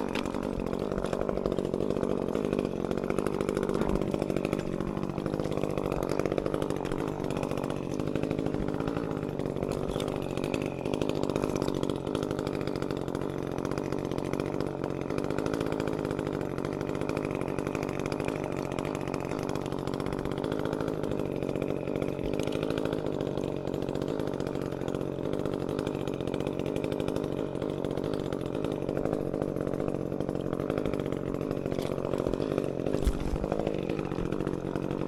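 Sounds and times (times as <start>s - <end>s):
chainsaw idling: 0.0s - 35.0s.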